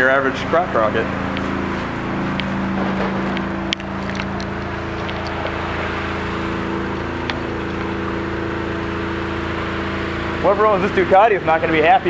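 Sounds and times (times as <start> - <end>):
water pump motor humming: 0.0 - 12.0.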